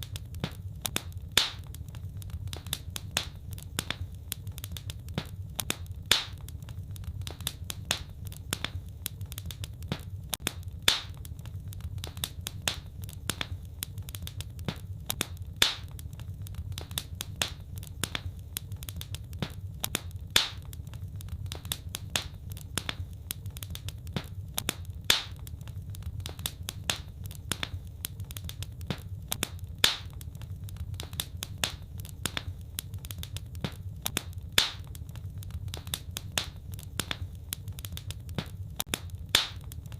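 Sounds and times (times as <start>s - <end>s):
fire popping: 0.0s - 39.9s
low rumble of flames: 0.0s - 39.9s
wood fire crackling: 0.0s - 39.9s.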